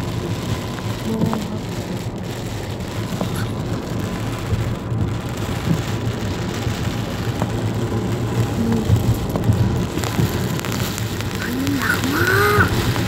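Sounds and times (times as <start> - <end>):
heavy rain pouring: 0.0 - 13.0
low rumble: 0.0 - 13.0.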